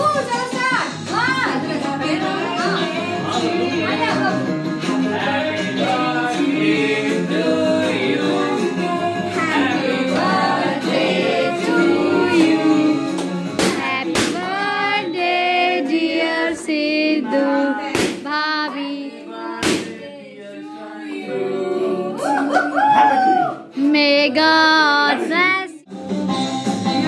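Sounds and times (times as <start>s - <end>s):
voices singing together: 1.1s - 23.8s.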